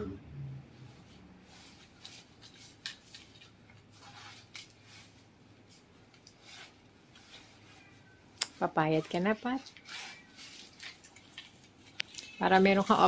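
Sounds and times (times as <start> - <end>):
jacket fabric rustling: 0.7 - 13.0.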